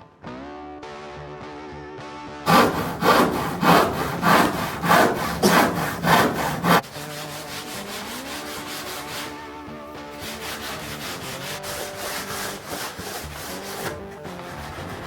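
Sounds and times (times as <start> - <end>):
hand saw cutting wood: 2.5 - 15.0.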